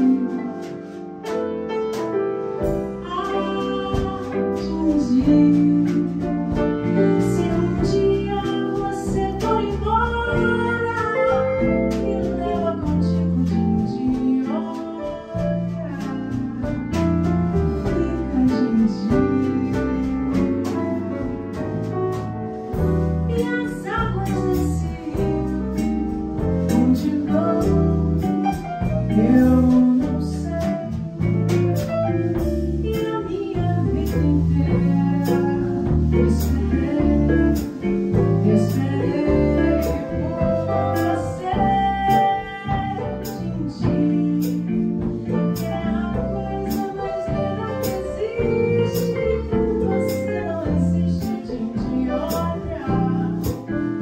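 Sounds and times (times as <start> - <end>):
woman singing: 0.0 - 1.0, 3.0 - 21.6, 23.3 - 54.0
live band playing: 0.0 - 54.0.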